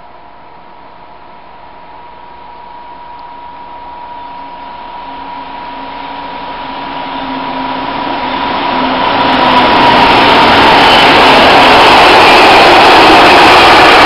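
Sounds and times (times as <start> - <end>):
diesel locomotive engines: 0.2 - 14.0
train wheels rolling: 2.7 - 14.0.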